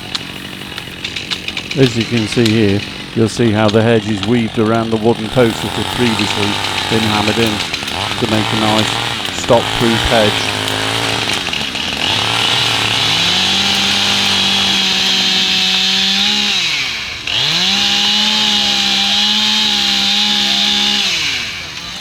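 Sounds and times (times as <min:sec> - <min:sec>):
chainsaw at full throttle: 0:00.0 - 0:22.0.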